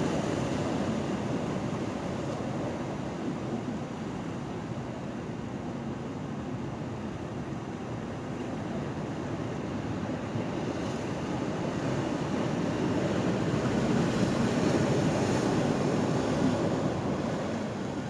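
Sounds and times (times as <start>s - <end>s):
ocean surf washing: 0.0s - 18.0s.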